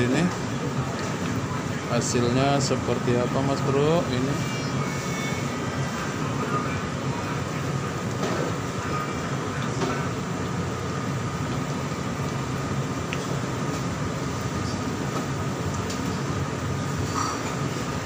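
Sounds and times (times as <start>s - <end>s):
deep-frying sizzle and bubble: 0.0s - 18.0s.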